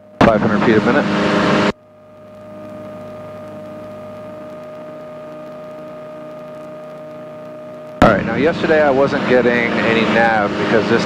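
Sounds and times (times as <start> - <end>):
airplane engine and propeller drone: 0.0 - 11.0
steady hum tone: 0.0 - 11.0.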